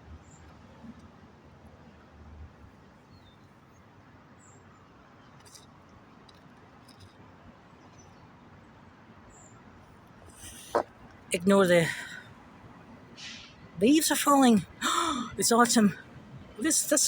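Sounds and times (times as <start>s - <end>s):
distant traffic hum: 0.0s - 17.0s.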